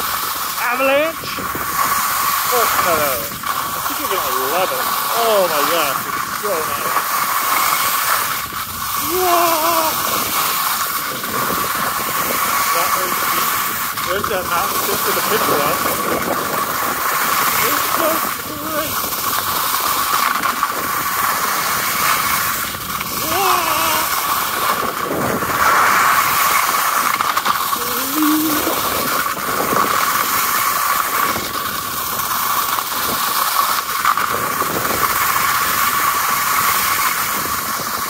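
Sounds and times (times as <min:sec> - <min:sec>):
skis scraping over snow: 0:00.0 - 0:38.0
wind on microphone: 0:01.2 - 0:05.1, 0:05.9 - 0:32.3, 0:34.1 - 0:38.0.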